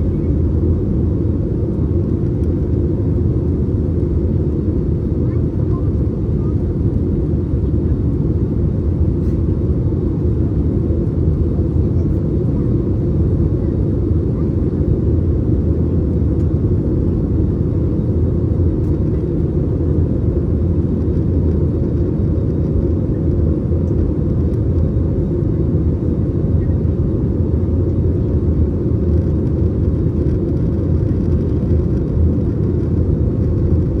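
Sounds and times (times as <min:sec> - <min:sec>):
airplane cabin engine drone: 0:00.0 - 0:34.0.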